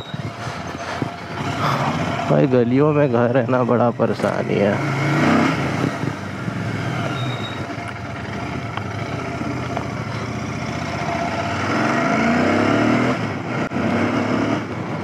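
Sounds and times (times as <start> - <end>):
motorcycle engine running: 0.0 - 3.0, 3.6 - 14.0.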